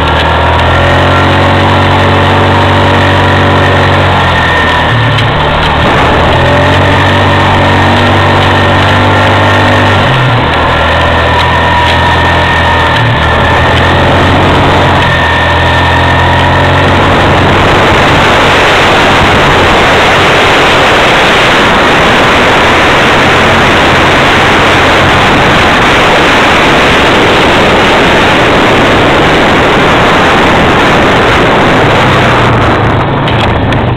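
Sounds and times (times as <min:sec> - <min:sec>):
engine drone with whine: 0:00.0 - 0:33.9
wind on microphone: 0:00.0 - 0:33.9.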